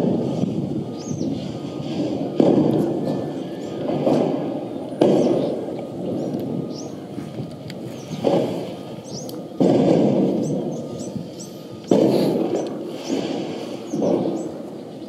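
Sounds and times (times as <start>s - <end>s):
fireworks booming through phone speaker: 0.0s - 14.9s.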